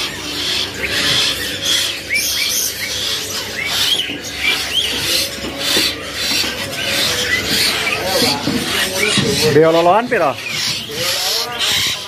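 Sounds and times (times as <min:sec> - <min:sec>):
birds chirping: 0:00.0 - 0:12.0
raspy bird chatter: 0:00.0 - 0:12.0.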